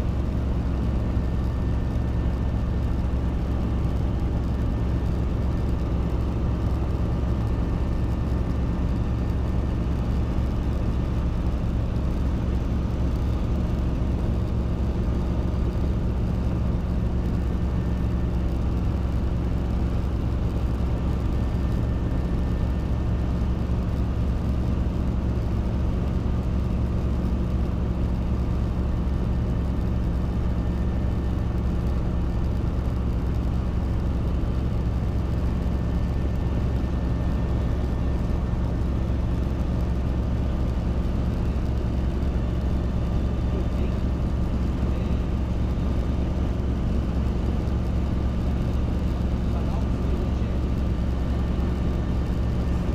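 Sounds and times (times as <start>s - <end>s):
helicopter engine and rotor drone: 0.0s - 52.9s.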